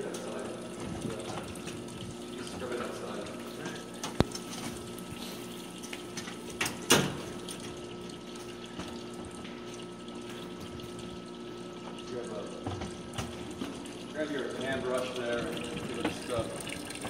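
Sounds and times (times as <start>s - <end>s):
juice pouring into metal bucket: 0.0s - 17.0s.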